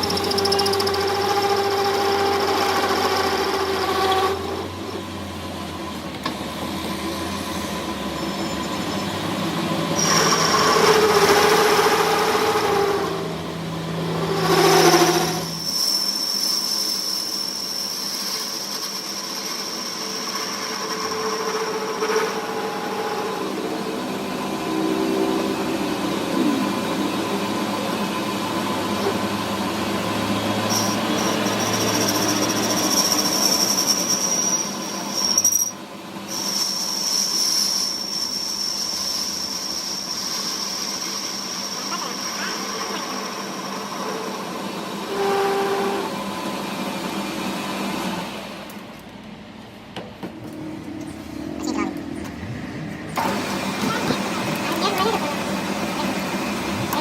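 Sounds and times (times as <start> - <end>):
workshop machinery whining: 0.0 - 57.0.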